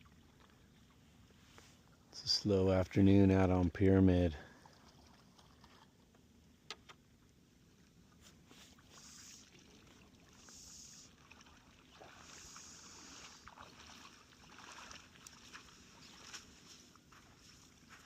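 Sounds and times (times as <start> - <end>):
lake water lapping at shore: 0.0 - 2.1, 4.4 - 6.6, 7.4 - 18.0.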